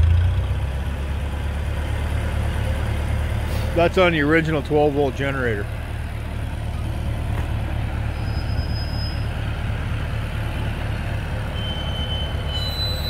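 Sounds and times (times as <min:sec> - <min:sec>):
tractor engine pulsing: 0:00.0 - 0:13.0.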